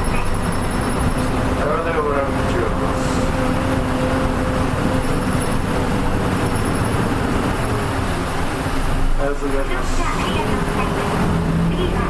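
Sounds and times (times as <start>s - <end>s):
bus engine and road drone: 0.0s - 12.0s.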